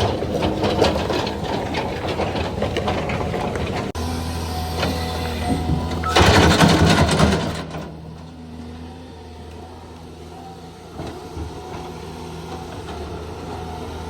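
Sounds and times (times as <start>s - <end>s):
heavy machinery engines running: 0.0s - 14.0s.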